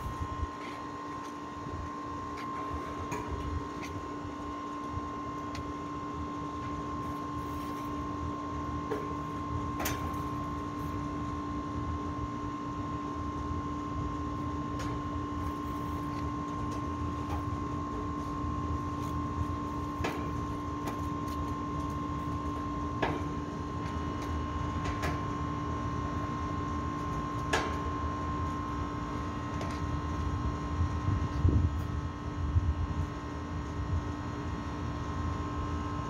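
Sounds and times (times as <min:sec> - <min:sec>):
machine hum with rumble: 0:00.0 - 0:36.0.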